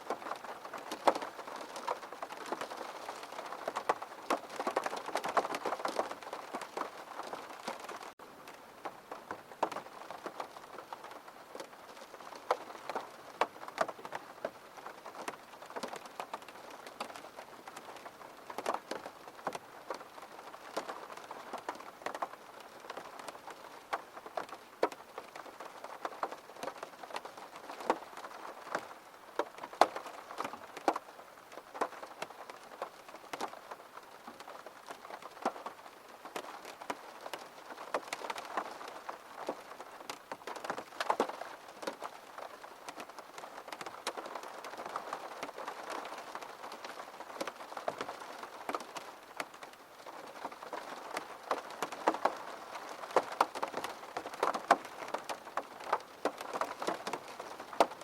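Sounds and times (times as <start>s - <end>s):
rain drops tapping on surface: 0.0s - 58.0s.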